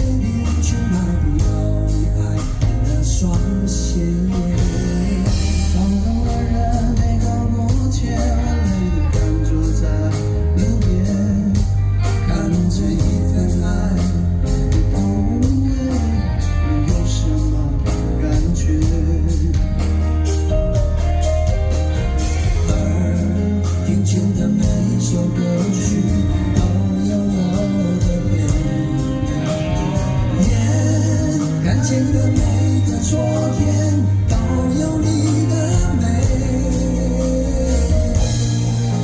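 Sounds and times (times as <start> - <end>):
live rock band music: 0.0 - 39.0
steady drum beat: 0.0 - 39.0.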